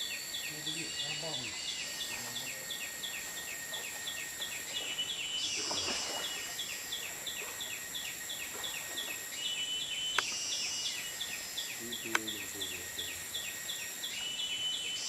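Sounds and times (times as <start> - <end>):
high-pitched insect drone: 0.0 - 15.0
regular chirping call: 0.0 - 15.0.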